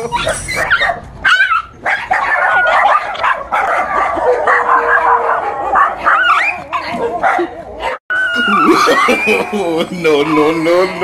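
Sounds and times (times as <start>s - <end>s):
dog barking and yipping: 0.0s - 9.3s.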